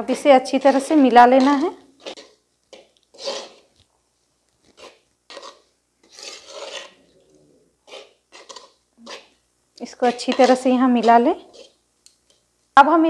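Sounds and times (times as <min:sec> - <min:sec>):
metal spatula scraping pot: 0:00.0 - 0:03.8, 0:04.6 - 0:11.8.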